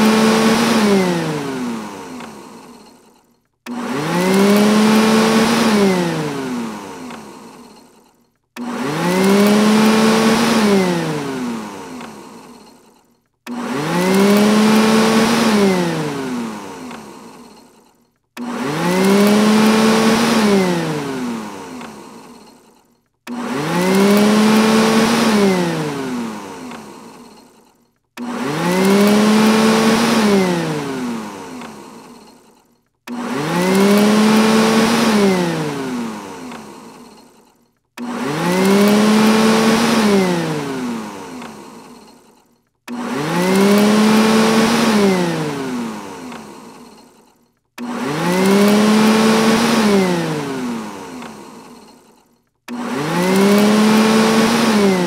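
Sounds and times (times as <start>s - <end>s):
robot vacuum motor whine: 0.0s - 55.0s.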